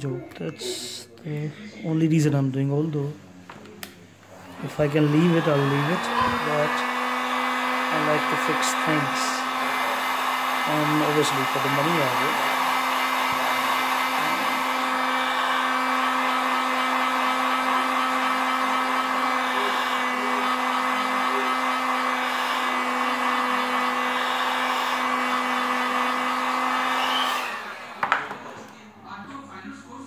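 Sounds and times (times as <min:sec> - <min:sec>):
hot-air blower running: 0:03.8 - 0:28.9.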